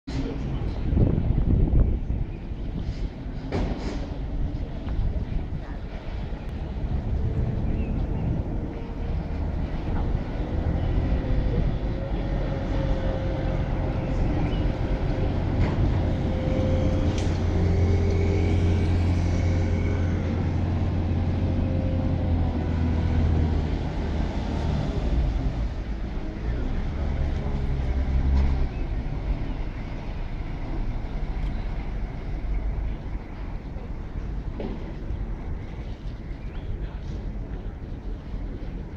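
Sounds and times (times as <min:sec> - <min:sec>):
city noise: 0:00.0 - 0:38.9
boat engine humming: 0:00.2 - 0:38.9.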